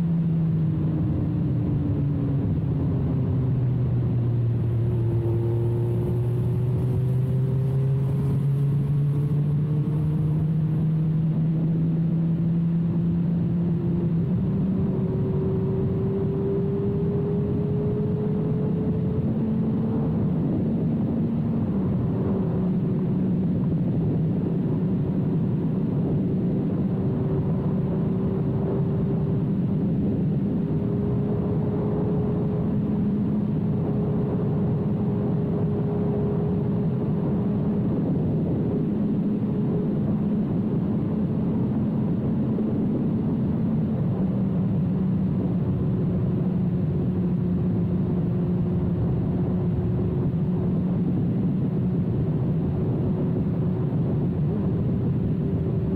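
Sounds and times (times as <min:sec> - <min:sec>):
motorcycle engine cruising: 0:00.0 - 0:55.9
wind noise: 0:00.0 - 0:55.9.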